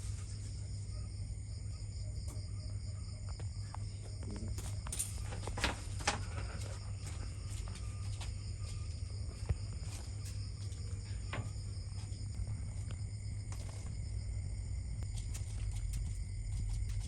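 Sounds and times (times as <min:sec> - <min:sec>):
high-pitched insect chorus: 0:00.0 - 0:17.0
low hum: 0:00.0 - 0:17.0.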